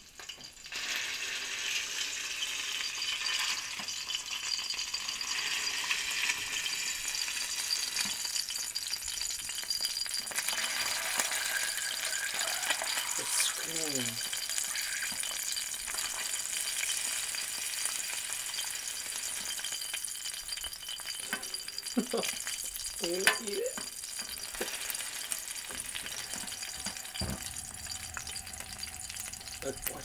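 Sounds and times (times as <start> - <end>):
hot oil sizzling in a pan: 0.0 - 30.0.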